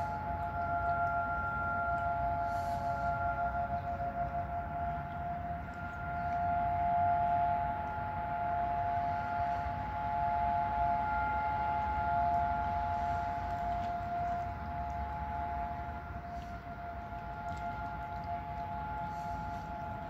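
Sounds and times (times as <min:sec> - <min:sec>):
low rumble: 0:00.0 - 0:20.0
warning siren: 0:00.0 - 0:20.0.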